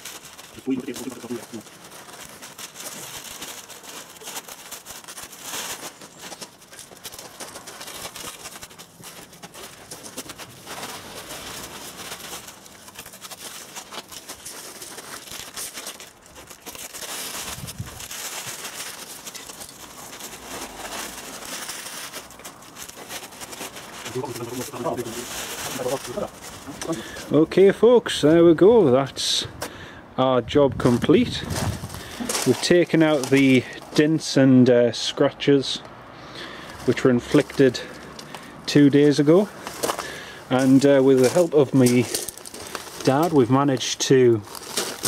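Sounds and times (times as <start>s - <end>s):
paper rustling and crinkling: 0.0s - 29.0s, 30.8s - 34.3s, 36.4s - 45.0s.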